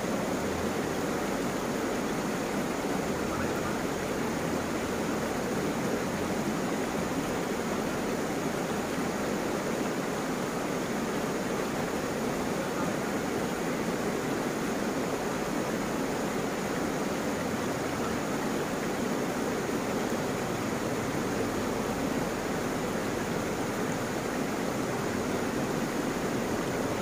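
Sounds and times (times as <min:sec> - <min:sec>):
water rushing over stones: 0:00.0 - 0:27.0.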